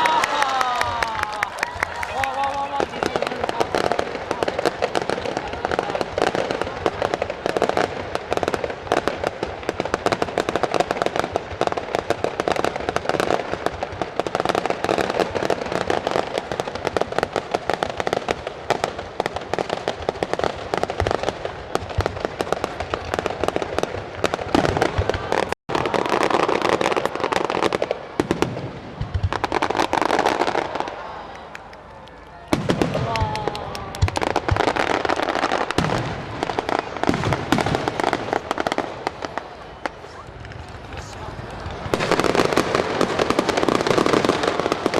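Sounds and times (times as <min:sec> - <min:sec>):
fireworks crackling barrage: 0:00.0 - 0:44.9.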